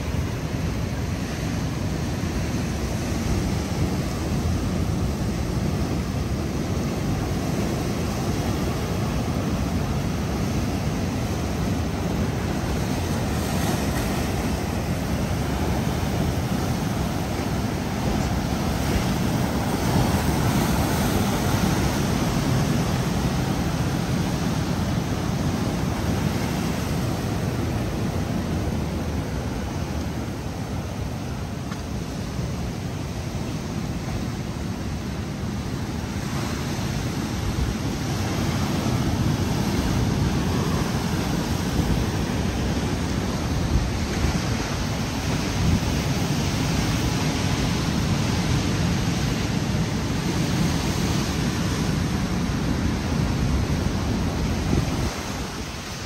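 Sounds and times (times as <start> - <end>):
ocean surf washing: 0.0 - 56.0
wind: 0.0 - 56.0.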